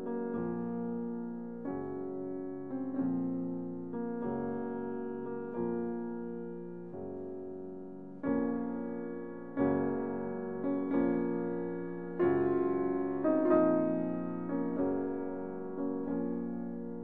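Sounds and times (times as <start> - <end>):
slow calm piano music: 0.0 - 17.0.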